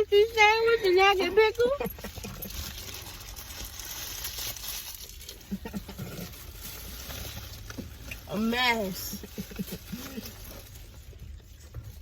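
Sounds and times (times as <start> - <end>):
paper wrapper rustling: 1.2 - 12.0.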